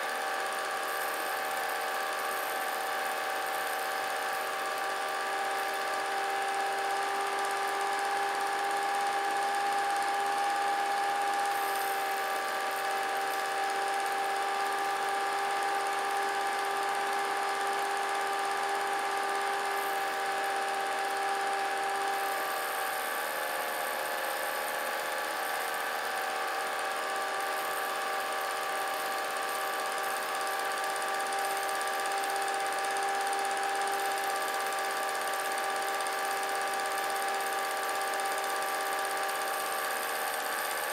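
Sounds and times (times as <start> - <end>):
small motor whine: 0.0 - 40.9.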